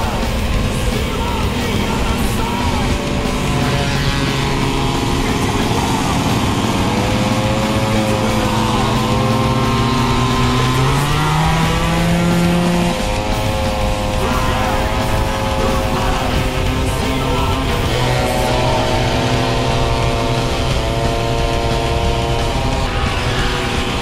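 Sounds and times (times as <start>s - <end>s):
moped engines running: 0.0s - 24.0s.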